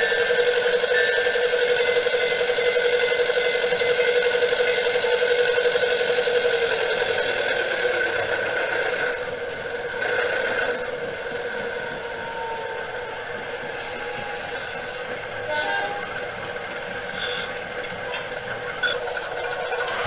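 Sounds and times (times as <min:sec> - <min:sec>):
model train humming and rattling: 0:00.0 - 0:20.0.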